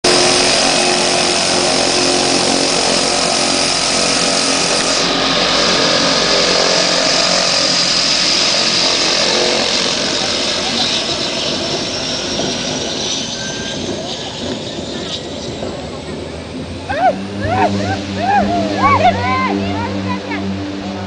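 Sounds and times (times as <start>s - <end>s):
high turbine whine: 0.0s - 21.0s
propeller buzz: 0.0s - 21.0s
turboprop engine running: 0.0s - 21.0s.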